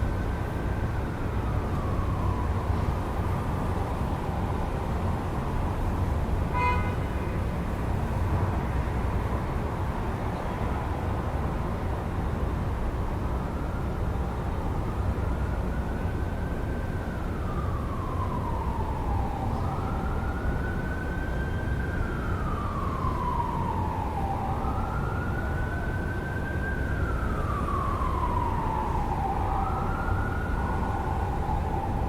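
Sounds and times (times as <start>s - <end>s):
emergency siren wailing: 0.0s - 9.9s, 12.1s - 32.0s
city traffic rumble: 0.0s - 32.0s.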